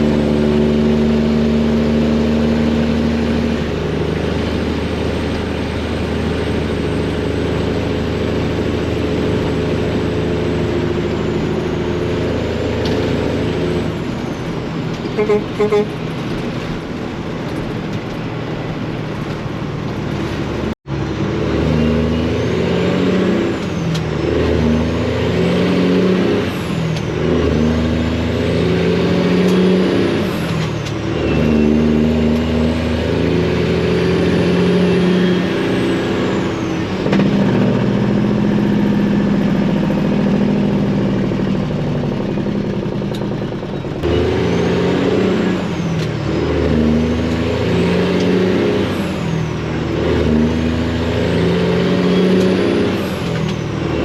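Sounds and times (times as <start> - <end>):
diesel truck engine shifting gears: 0.0 - 54.0.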